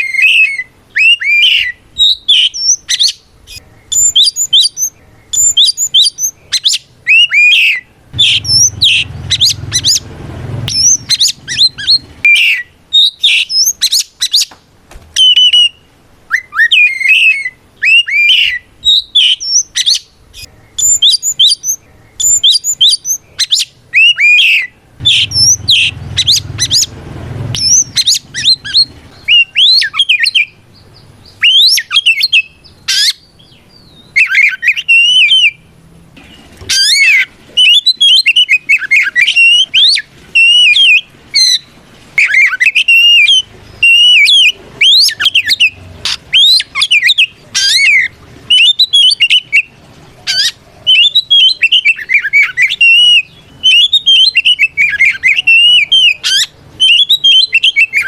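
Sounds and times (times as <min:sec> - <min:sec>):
bird singing loudly: 0:00.0 - 0:14.5, 0:15.2 - 0:35.7, 0:36.7 - 0:58.0.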